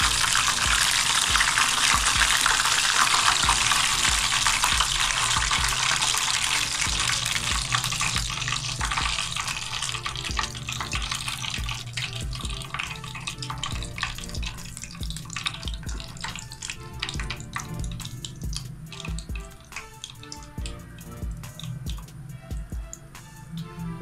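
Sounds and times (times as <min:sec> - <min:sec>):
fish sizzling in hot oil: 0:00.0 - 0:23.1.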